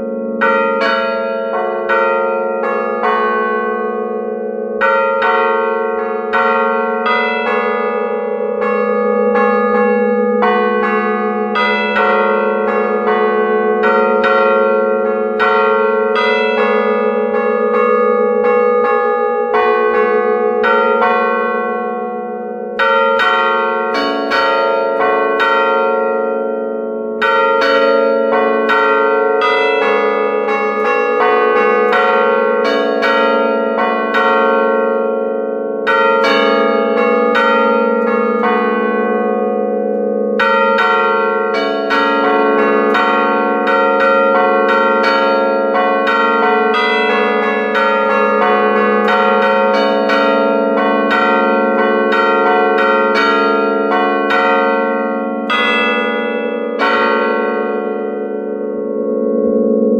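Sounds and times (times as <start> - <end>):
church bells struck in a melody: 0.0 - 59.9.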